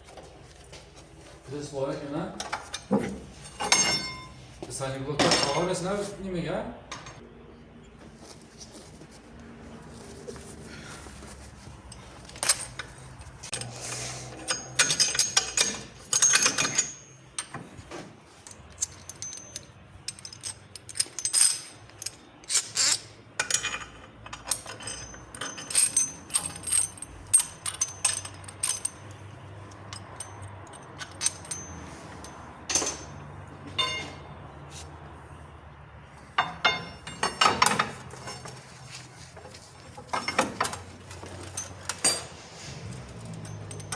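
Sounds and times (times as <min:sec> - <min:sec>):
metal tools clinking and clattering: 0:01.4 - 0:04.5, 0:05.2 - 0:05.8, 0:06.9 - 0:07.2, 0:09.9 - 0:34.5, 0:36.2 - 0:43.9.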